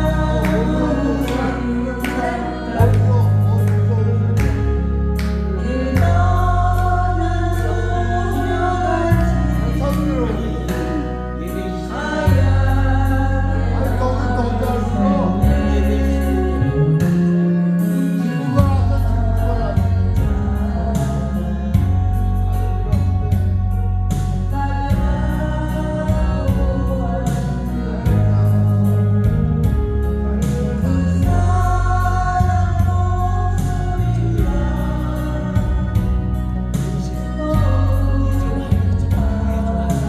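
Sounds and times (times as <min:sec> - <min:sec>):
karaoke backing track: 0:00.0 - 0:40.0
person singing: 0:00.0 - 0:40.0.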